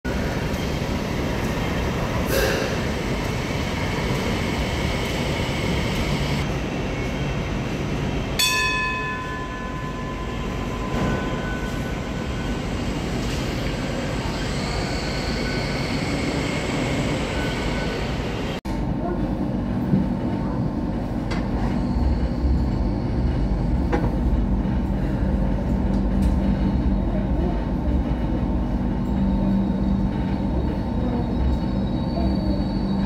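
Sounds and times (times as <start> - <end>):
light rail vehicle rumbling: 0.0 - 33.0.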